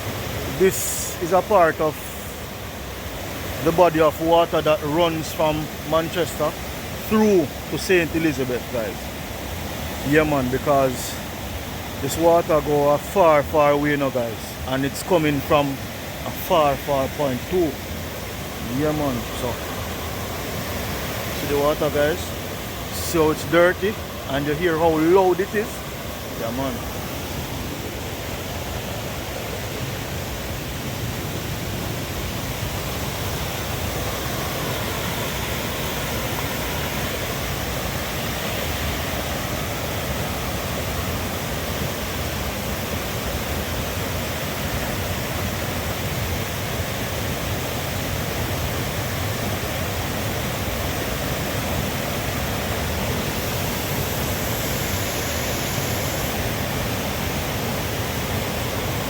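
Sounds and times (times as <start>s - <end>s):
river water rushing loudly: 0.0s - 59.0s.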